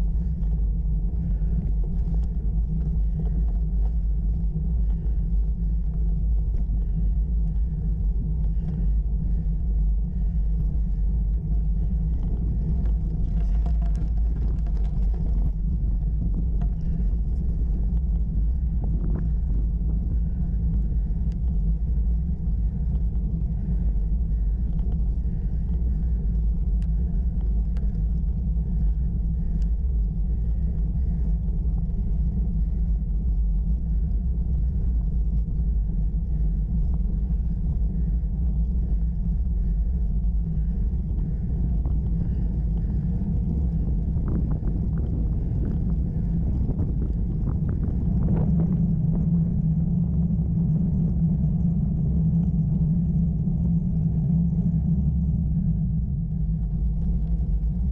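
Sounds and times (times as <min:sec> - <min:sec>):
bicycle rumbling on gravel: 0:00.0 - 0:57.9
wind on microphone: 0:00.0 - 0:57.9.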